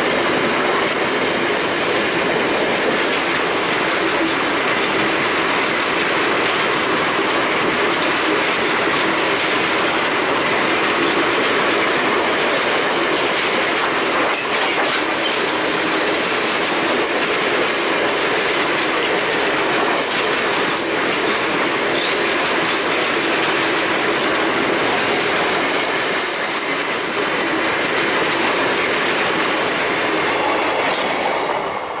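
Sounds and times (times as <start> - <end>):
freight train wheels clattering: 0.0 - 32.0.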